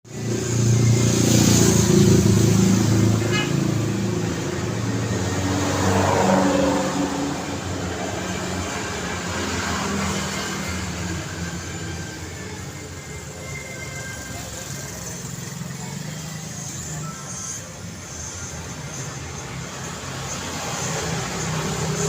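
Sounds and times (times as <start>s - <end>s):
vehicles driving past: 0.1s - 22.0s.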